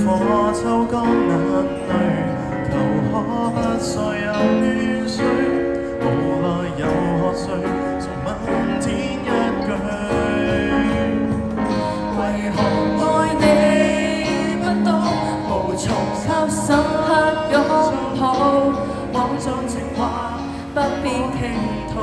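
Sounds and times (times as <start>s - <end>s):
live band playing instrumental: 0.0s - 22.0s.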